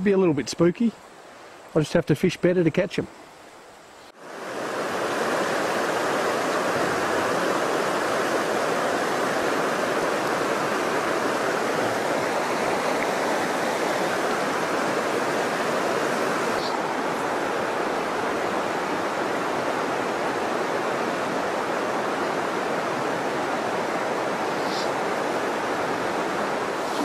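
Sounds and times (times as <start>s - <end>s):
water rushing through rapids: 4.2s - 27.0s.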